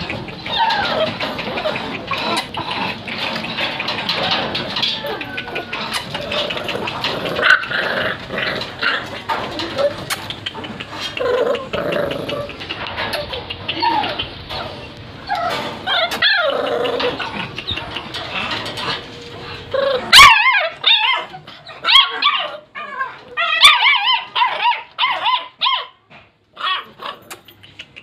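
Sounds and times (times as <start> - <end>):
puppies yelping and whining: 0.0 - 26.0.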